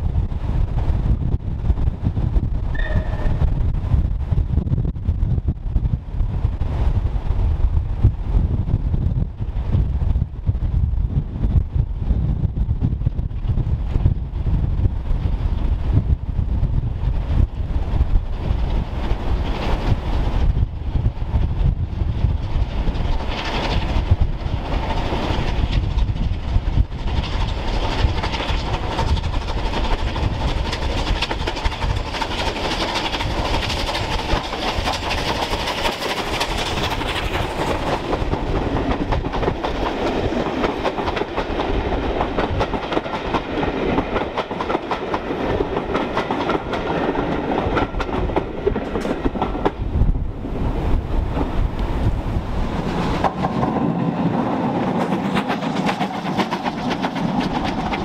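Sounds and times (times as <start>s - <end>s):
steam locomotive passing: 0.0s - 5.2s, 6.1s - 58.0s
train wheels clickety-clack: 1.6s - 4.0s, 12.7s - 58.0s.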